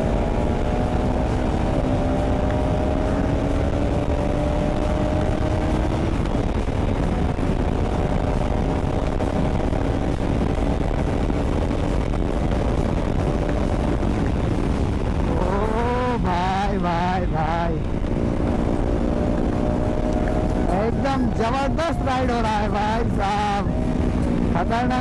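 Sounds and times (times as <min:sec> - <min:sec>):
motorcycle engine running: 0:00.0 - 0:25.0
wind rush on microphone: 0:00.0 - 0:25.0.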